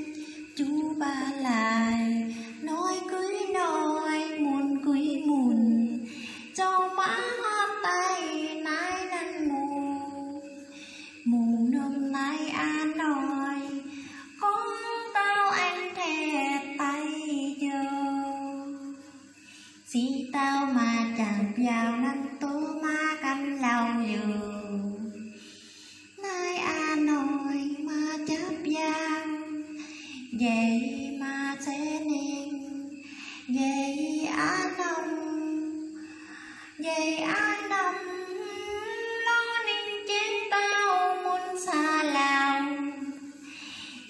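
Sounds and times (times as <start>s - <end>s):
woman singing into microphone: 0.0s - 25.3s, 26.2s - 44.0s.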